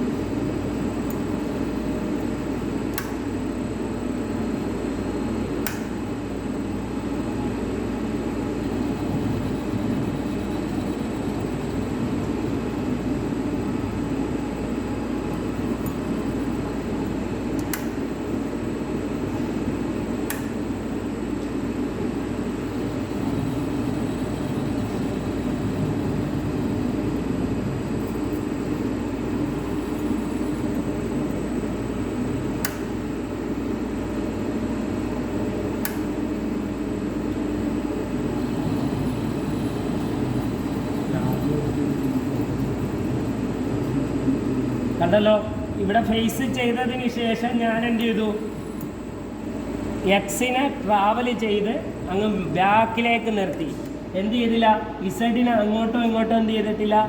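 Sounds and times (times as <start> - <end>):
lathe running with mechanical hum: 0.0 - 57.0.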